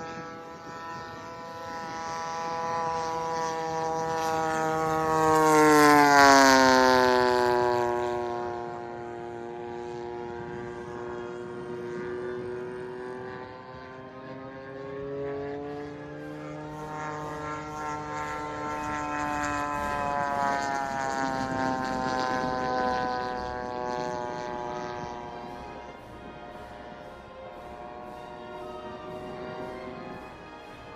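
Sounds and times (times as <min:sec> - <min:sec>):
model plane engine droning: 0:00.0 - 0:30.9.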